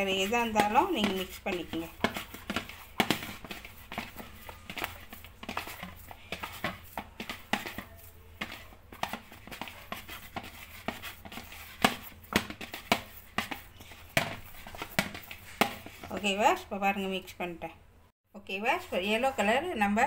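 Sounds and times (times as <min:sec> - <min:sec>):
dough squishing in plastic bowl: 0:00.0 - 0:17.7, 0:18.5 - 0:20.0.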